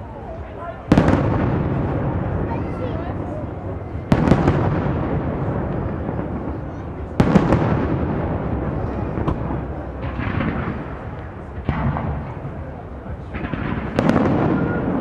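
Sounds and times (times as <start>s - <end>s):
firework crackle: 0.8s - 15.0s
firework bang with rumbling echo: 0.9s - 15.0s.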